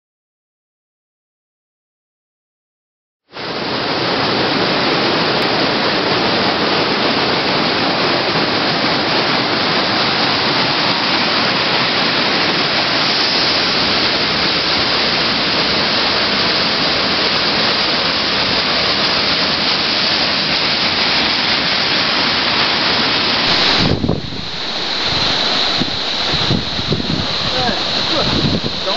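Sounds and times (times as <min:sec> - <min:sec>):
waterfall rushing over boulders: 0:03.4 - 0:28.9.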